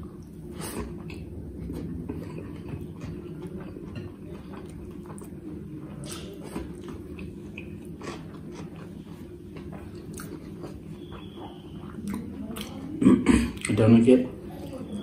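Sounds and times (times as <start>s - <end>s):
steady low hum: 0.0s - 15.0s
chewing and mouth sounds: 0.1s - 12.9s.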